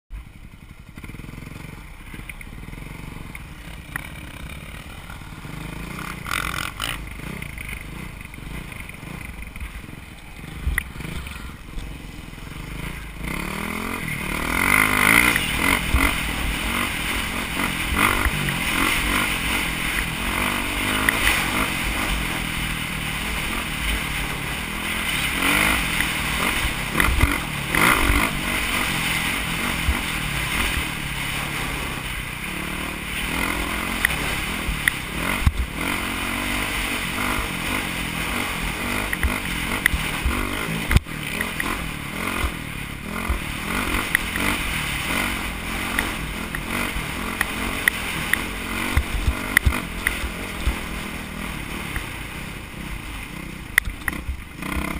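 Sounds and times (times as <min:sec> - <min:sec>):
dirt bike engine revving: 0:00.2 - 0:54.9.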